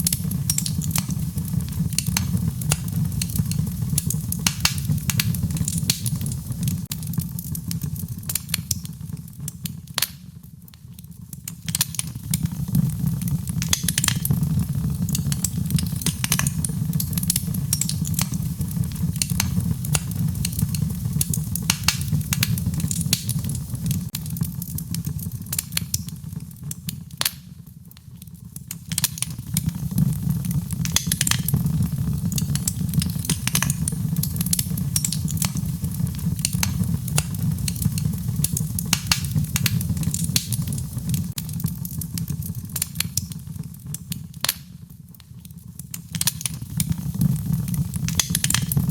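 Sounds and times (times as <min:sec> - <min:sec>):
fire low rumble: 0:00.0 - 0:45.0, 0:45.7 - 0:48.9
wood fire crackling and popping: 0:00.0 - 0:48.9.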